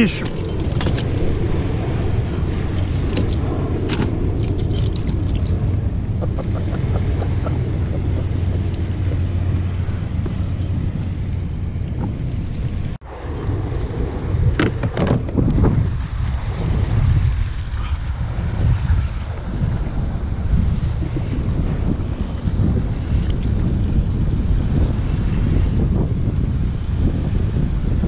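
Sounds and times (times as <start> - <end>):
small waves: 0.0 - 28.0
wind buffeting microphone: 0.0 - 28.0.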